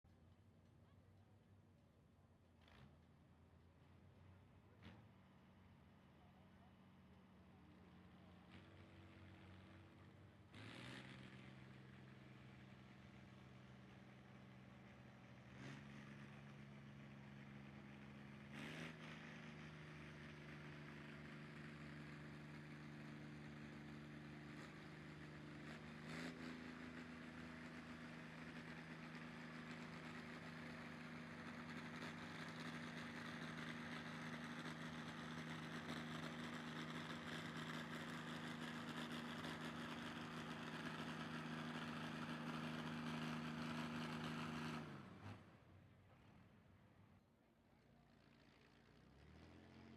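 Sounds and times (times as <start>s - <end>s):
vehicle engine running: 4.8s - 49.9s.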